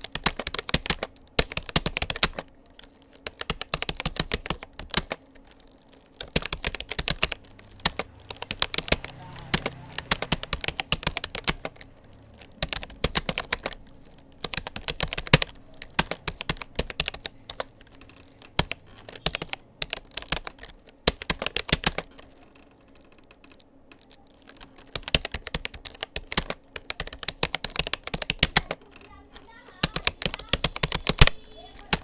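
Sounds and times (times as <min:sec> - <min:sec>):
computer keyboard typing: 0:00.0 - 0:32.0.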